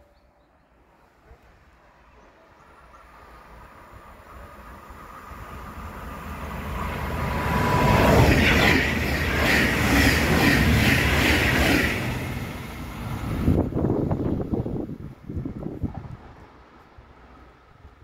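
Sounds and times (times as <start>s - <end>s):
train passing: 0.7s - 18.0s
rhythmic rail and wheel noise: 2.7s - 17.5s.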